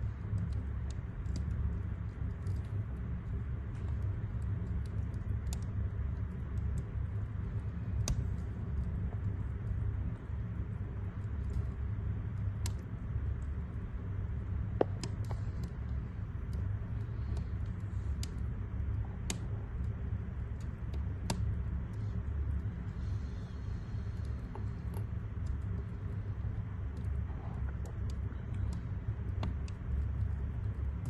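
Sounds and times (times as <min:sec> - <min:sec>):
burning logs popping: 0:00.0 - 0:31.0
wood fire crackling: 0:00.0 - 0:31.0.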